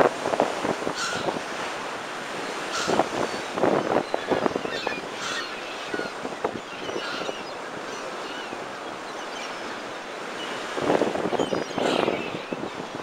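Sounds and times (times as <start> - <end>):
wind on microphone: 0.0 - 9.0, 9.6 - 13.0
gulls calling: 0.9 - 13.0.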